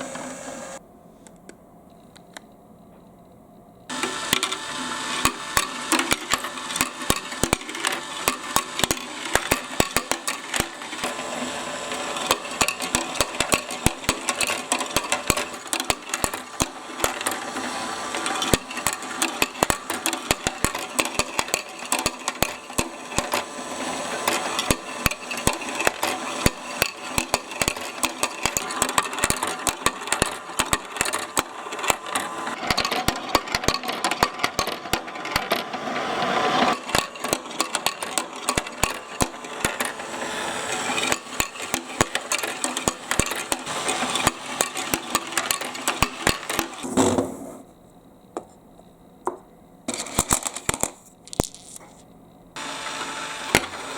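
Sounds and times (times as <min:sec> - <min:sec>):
marbles rolling and clattering: 0:03.9 - 0:47.2, 0:49.9 - 0:52.0.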